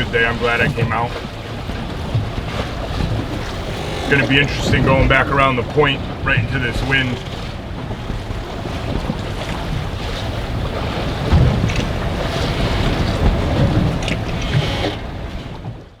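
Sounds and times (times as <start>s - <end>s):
gusty wind buffeting microphone: 0.0s - 15.9s
waves splashing: 0.0s - 16.0s.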